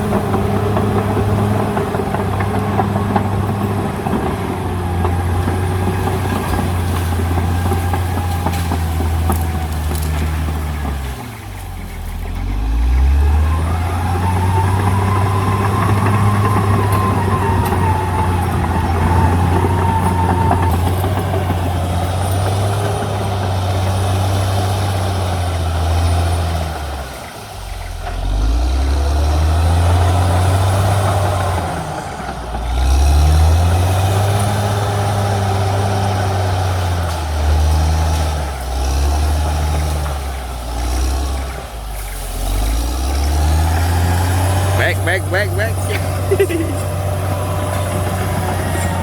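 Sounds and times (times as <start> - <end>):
bulldozer diesel engine revving: 0.0 - 49.0.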